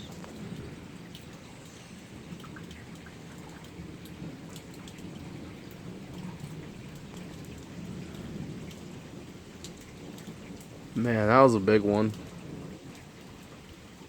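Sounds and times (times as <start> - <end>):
drips ticking close by: 0.0 - 14.0
heavy rain falling: 0.0 - 14.0.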